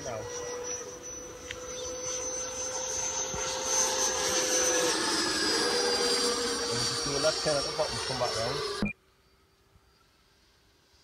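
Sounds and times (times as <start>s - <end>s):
model jet ducted-fan whine: 0.0s - 11.0s.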